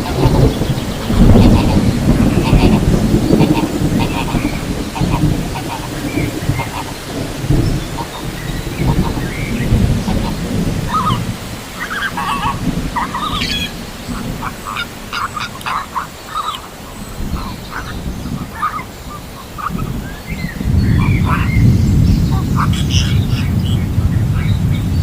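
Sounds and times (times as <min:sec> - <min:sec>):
flamingos calling: 0:00.0 - 0:24.6
low rumbling noise: 0:00.0 - 0:25.0.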